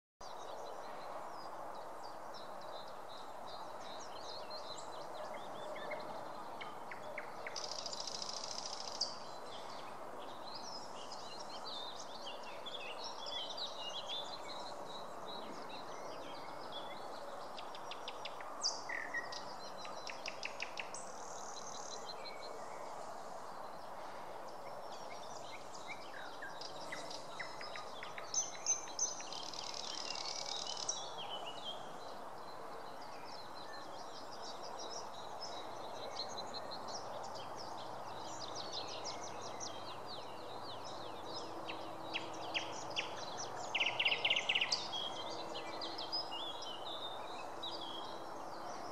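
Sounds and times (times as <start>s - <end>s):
songbirds singing: 0.2s - 48.9s.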